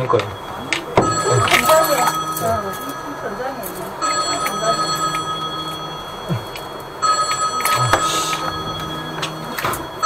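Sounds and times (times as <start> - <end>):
high-pitched ringing tone: 0.0 - 10.0
low hum: 0.0 - 10.0.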